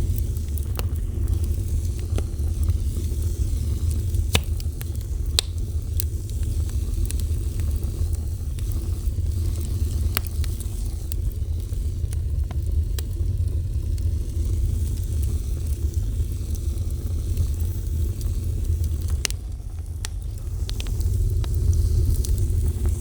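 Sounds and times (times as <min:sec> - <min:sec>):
fire burning: 0:00.0 - 0:23.0
fire crackles and pops: 0:00.0 - 0:23.0.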